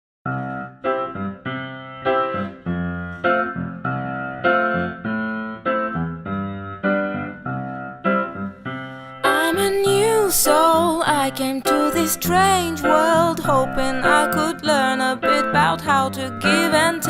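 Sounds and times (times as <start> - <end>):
piano chords: 0.2 - 17.0.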